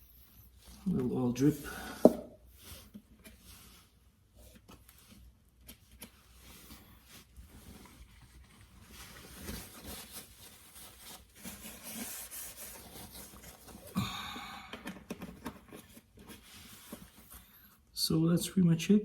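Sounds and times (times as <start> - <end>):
soft rustling: 0.0 - 14.0, 15.0 - 17.8.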